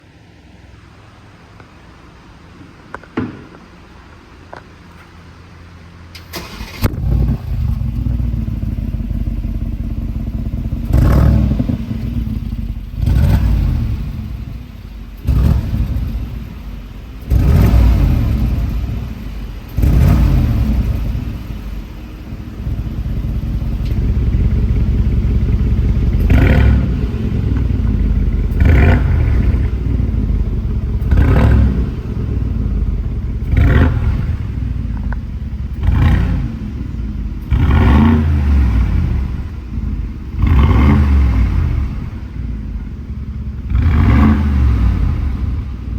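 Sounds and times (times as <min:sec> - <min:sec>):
car engine starting: 0:00.0 - 0:45.9
engine revving and idling: 0:05.5 - 0:45.9.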